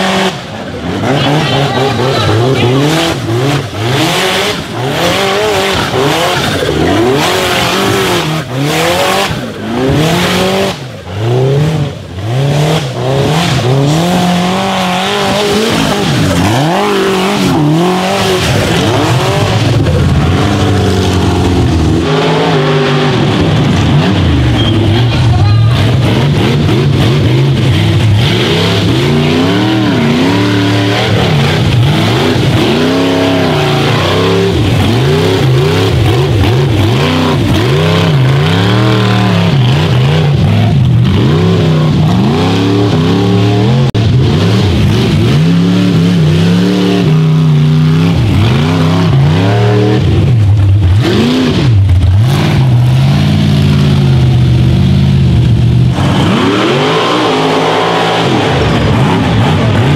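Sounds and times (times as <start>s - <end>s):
engine revving hard: 0.0s - 59.9s.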